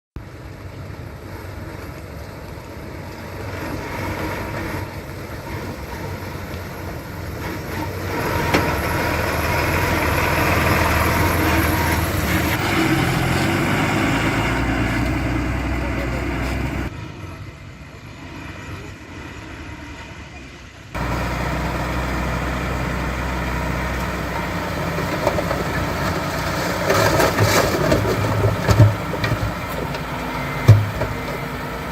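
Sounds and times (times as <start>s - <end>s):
heavy machinery engines running: 0.2s - 31.9s.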